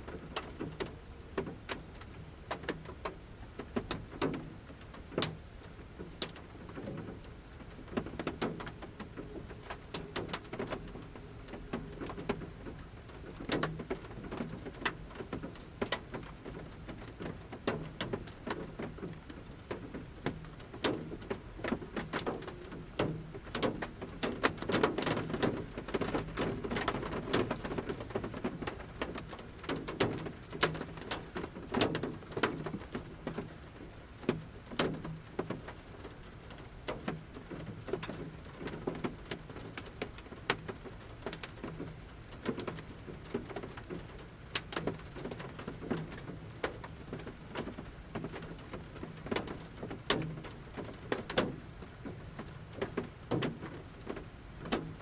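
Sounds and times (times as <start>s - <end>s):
raindrops tapping on a roof: 0.0s - 55.0s
soft rain hiss: 0.0s - 55.0s.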